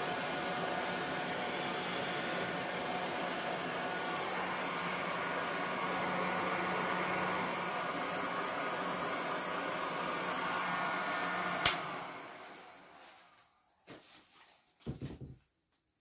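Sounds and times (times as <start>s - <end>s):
heat gun blowing air: 0.0s - 13.5s.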